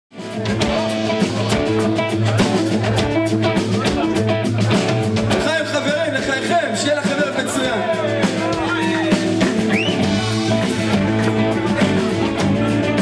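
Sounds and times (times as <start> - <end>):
bass line: 0.1 - 13.0
drum kit: 0.1 - 13.0
electric guitars: 0.1 - 13.0.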